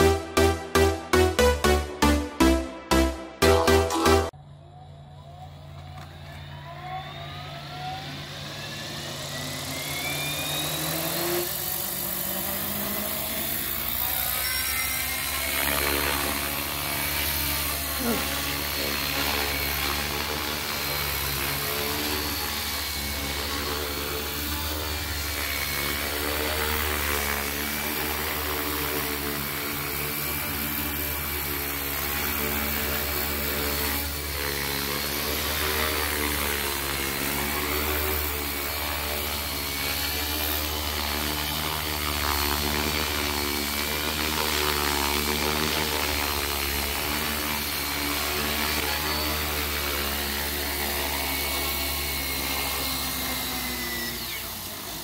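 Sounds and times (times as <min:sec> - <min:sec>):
rc helicopter rotor spinning: 0:05.5 - 0:55.0.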